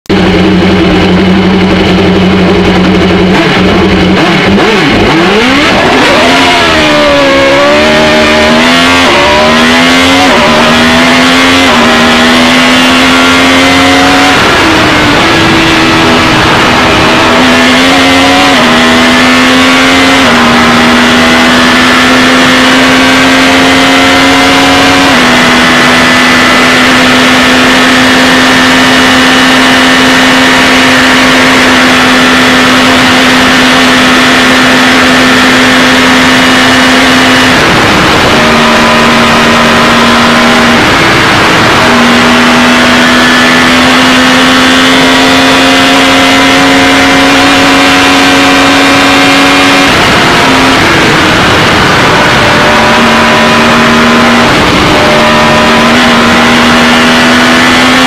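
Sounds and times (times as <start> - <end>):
race car engine revving and upshifting: 0.1 - 58.0.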